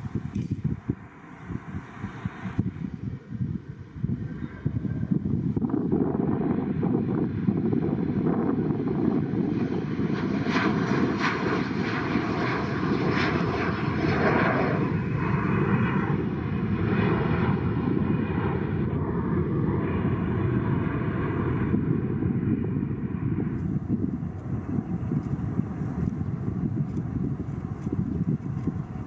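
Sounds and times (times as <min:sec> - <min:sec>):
jet engines roaring at takeoff: 0:00.0 - 0:29.0.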